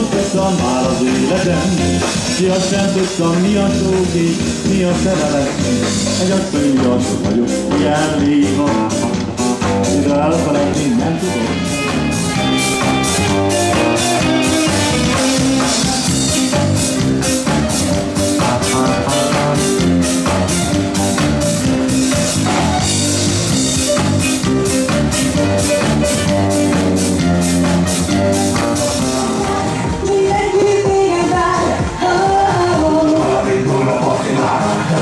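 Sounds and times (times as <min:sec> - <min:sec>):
drum kit beat: 0:00.0 - 0:35.0
electric bass guitar: 0:00.0 - 0:35.0
electric guitar: 0:00.0 - 0:35.0.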